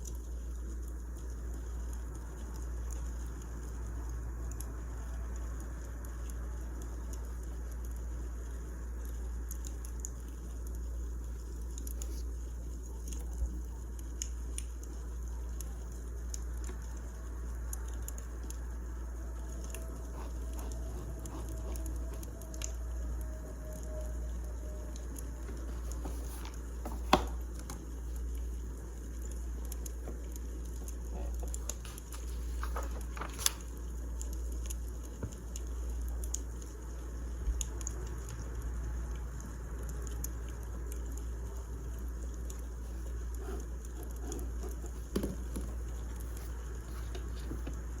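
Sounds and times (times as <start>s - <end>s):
wood fire crackling: 5.8s - 48.0s.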